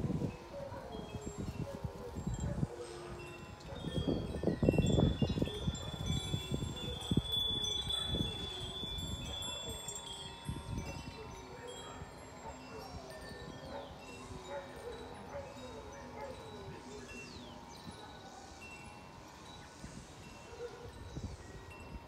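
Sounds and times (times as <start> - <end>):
wind chimes ringing: 0.0 - 22.0.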